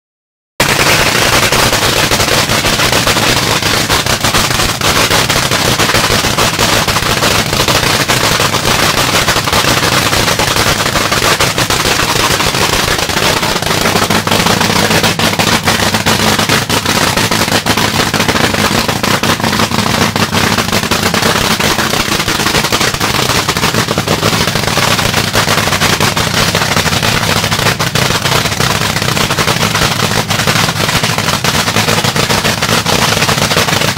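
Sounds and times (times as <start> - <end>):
drag-racing engine idling: 0.7 - 8.3, 9.0 - 33.0.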